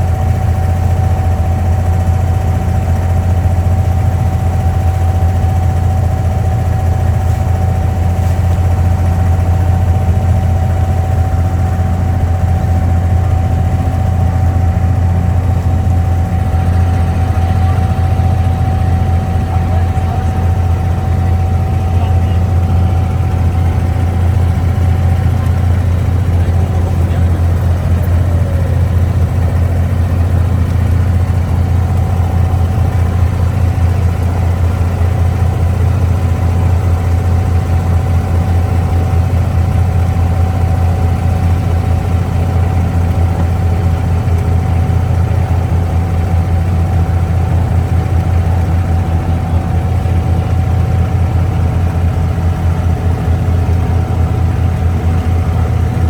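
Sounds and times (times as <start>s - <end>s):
boat diesel engine droning: 0.0s - 56.0s
thin steady whine: 0.0s - 56.0s.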